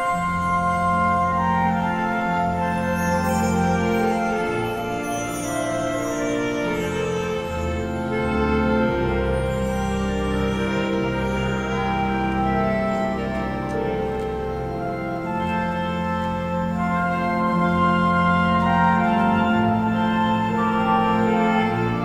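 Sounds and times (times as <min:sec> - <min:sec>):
flute violin and clarinet playing: 0:00.0 - 0:22.0.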